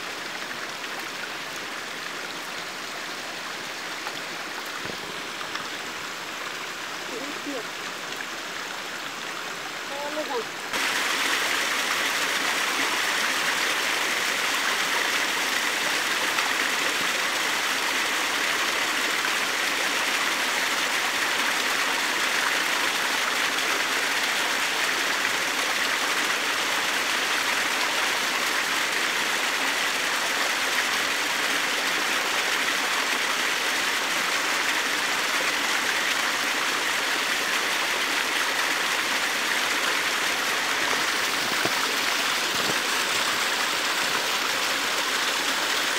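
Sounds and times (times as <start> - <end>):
stream of running water: 0.0 - 45.9.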